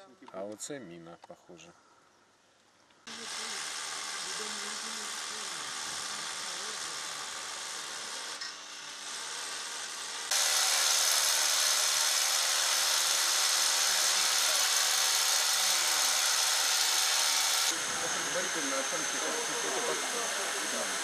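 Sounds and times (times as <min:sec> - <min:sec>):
power tool harsh hiss: 0:03.1 - 0:21.0.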